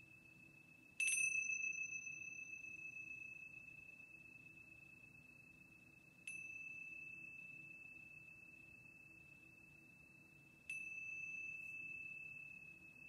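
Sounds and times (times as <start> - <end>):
small cymbals ringing: 0.0 - 5.6, 6.2 - 13.0.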